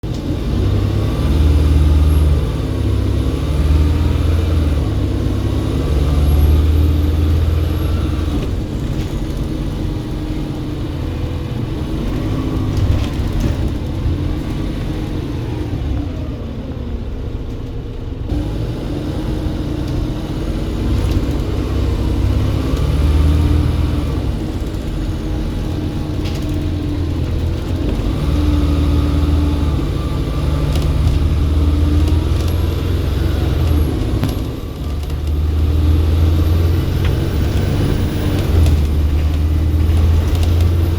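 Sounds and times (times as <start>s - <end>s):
diesel bus engine accelerating: 0.0s - 40.9s.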